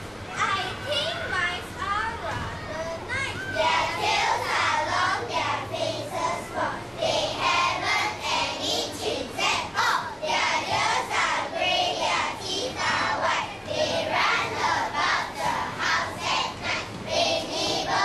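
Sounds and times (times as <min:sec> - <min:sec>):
children reciting in unison: 0:03.6 - 0:18.0.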